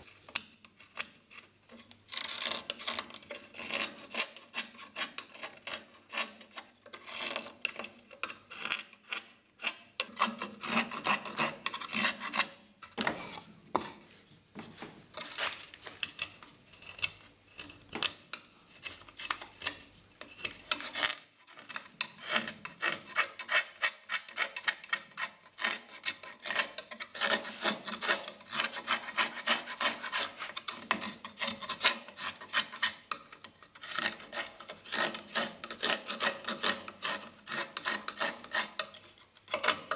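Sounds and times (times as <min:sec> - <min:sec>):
knife scraping wood shavings: 0:00.0 - 0:14.1, 0:15.1 - 0:39.9.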